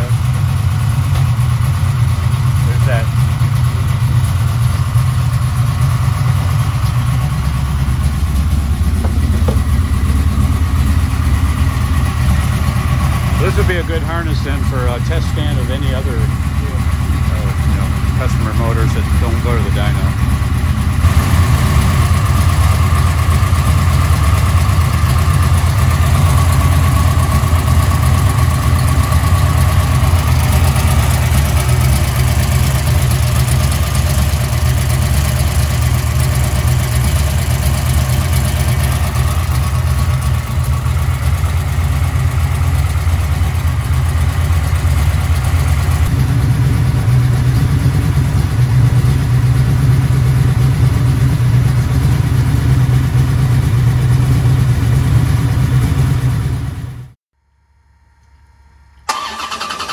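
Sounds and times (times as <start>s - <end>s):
engine idling: 0.0s - 57.2s, 58.2s - 59.9s.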